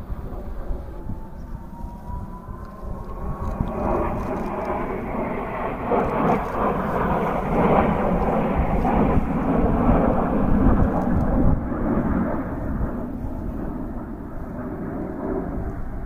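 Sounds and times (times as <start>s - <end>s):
jet engines passing overhead: 0.0s - 16.0s.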